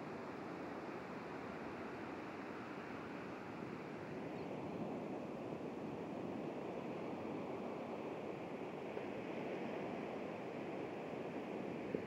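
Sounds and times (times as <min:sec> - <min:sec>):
surf washing up a sandy beach: 0:00.0 - 0:12.0.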